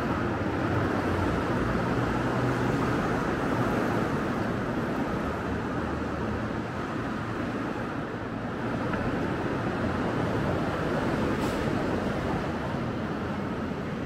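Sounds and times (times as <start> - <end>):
vehicles rumbling past: 0.0 - 14.0.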